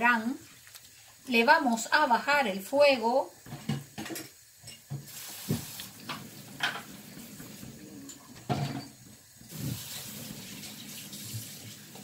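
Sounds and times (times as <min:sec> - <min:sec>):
meat in sauce sizzling in a pan: 0:00.0 - 0:12.0.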